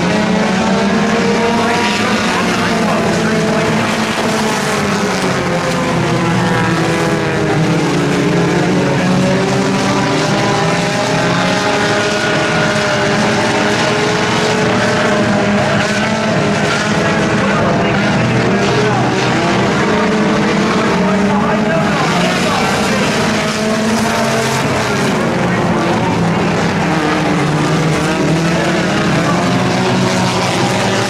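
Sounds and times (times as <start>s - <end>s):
race car engines: 0.0s - 31.0s.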